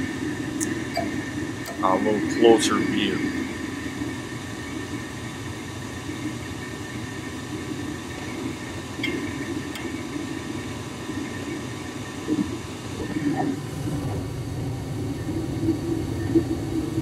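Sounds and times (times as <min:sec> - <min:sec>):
gas furnace running: 0:00.0 - 0:17.0.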